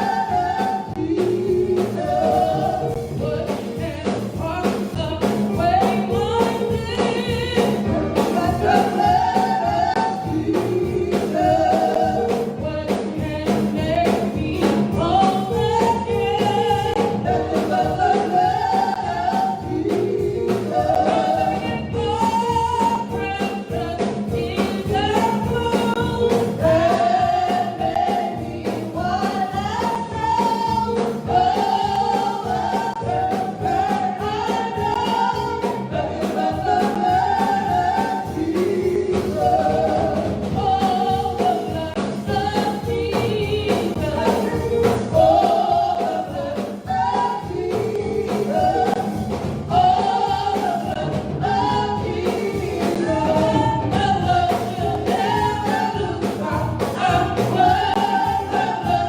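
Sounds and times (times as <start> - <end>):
gospel instrumental accompaniment: 0.0 - 59.0
person singing: 0.0 - 59.0.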